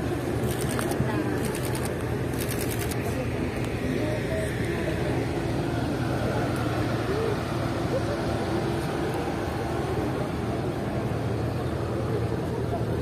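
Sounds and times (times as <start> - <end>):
crowd murmur: 0.0 - 13.0.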